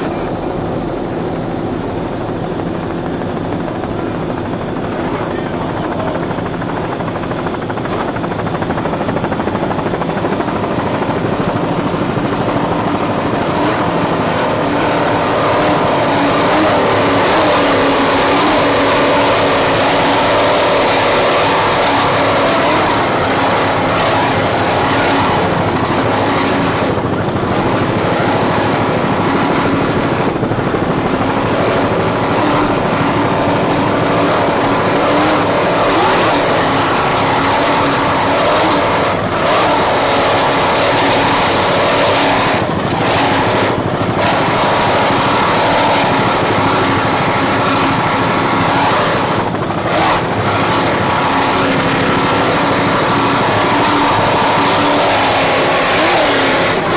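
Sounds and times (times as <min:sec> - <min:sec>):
loud engine drone: 0:00.0 - 0:56.9
rushing noise: 0:08.1 - 0:56.9.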